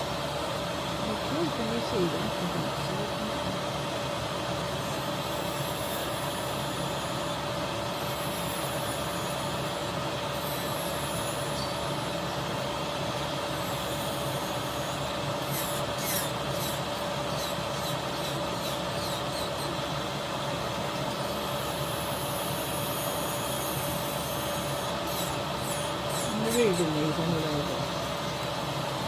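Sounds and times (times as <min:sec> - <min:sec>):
fan humming: 0:00.0 - 0:29.0.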